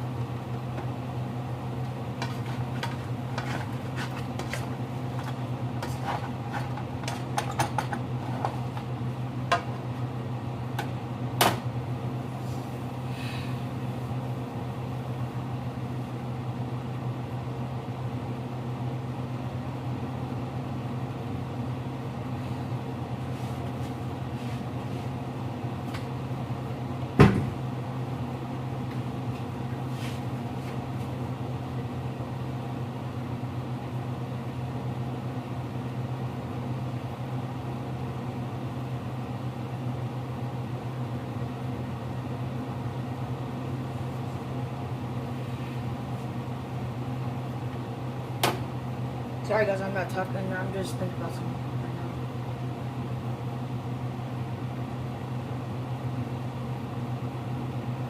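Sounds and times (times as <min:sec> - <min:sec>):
kitchen appliance humming: 0:00.0 - 0:58.0.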